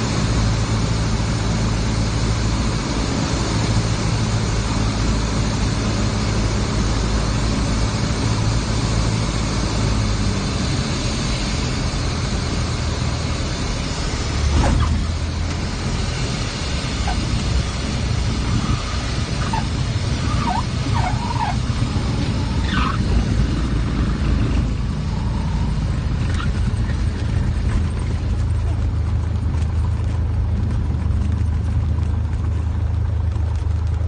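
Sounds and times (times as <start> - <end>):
airplane engine droning: 0.0 - 34.0
louder rumble: 0.0 - 34.0
rushing noise in cabin: 0.0 - 34.0.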